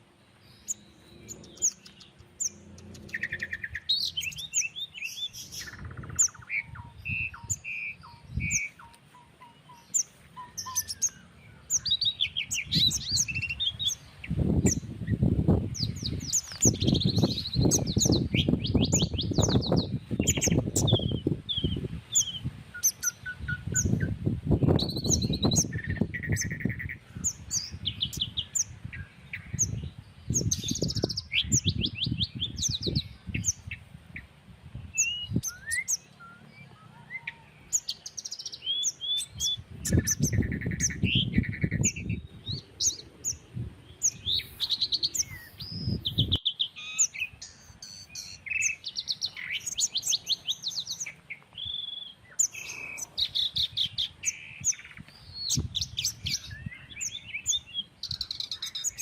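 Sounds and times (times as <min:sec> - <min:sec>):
birds chirping and singing: 0:00.0 - 0:59.0
wind buffeting microphone: 0:00.6 - 0:08.9, 0:10.4 - 0:35.9, 0:38.4 - 0:46.6, 0:52.6 - 0:59.0.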